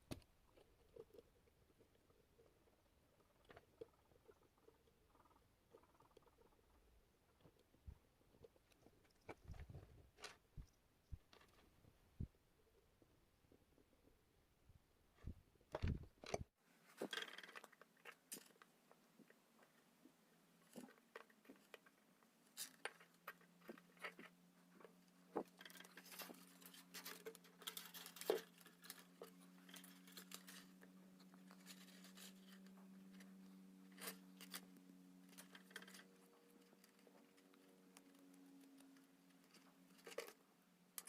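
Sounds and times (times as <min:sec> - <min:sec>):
small parts and wires clicking: 0:00.0 - 0:12.4, 0:15.2 - 0:19.9, 0:20.6 - 0:41.0
faint steady low hum: 0:00.0 - 0:41.0.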